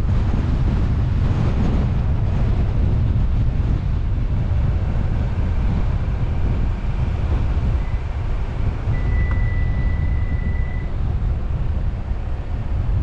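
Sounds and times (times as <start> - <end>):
road and engine noise: 0.0 - 13.0
wind buffeting microphone: 0.0 - 13.0.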